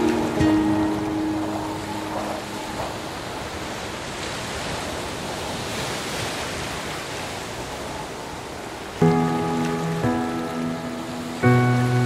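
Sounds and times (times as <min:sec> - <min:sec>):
sea waves breaking: 0:00.0 - 0:12.0.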